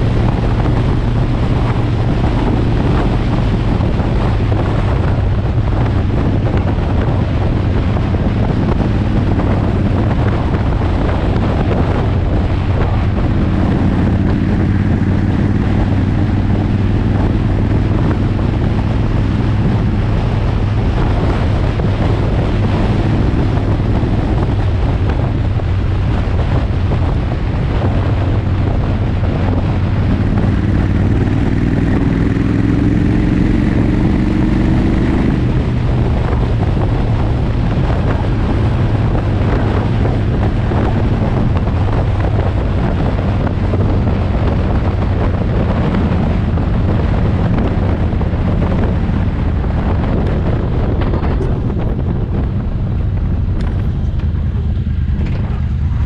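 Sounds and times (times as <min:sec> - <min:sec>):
motorcycle engine cruising: 0:00.0 - 0:56.0
wind buffeting microphone: 0:00.0 - 0:56.0.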